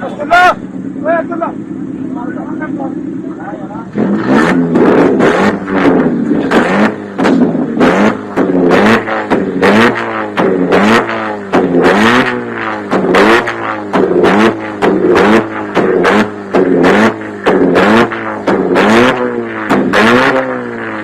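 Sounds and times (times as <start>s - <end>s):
car engine revving: 0.0s - 21.0s
sharp exhaust bangs: 0.0s - 21.0s.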